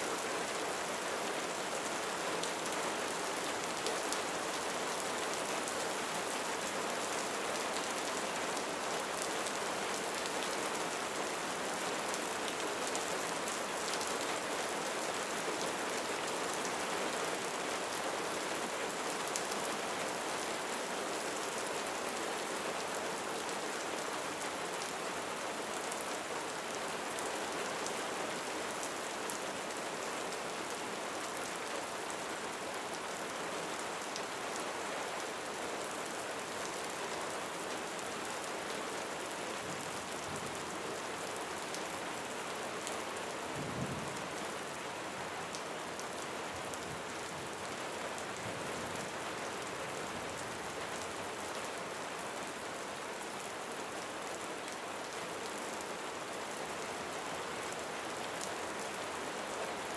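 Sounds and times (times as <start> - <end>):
rain pattering on roof: 0.4 - 59.9.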